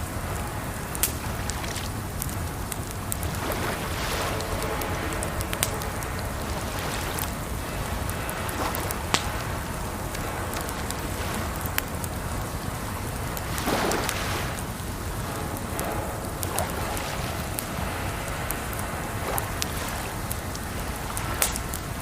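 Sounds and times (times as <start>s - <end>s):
water rushing: 0.0s - 22.0s
wood fire crackling and popping: 0.0s - 22.0s.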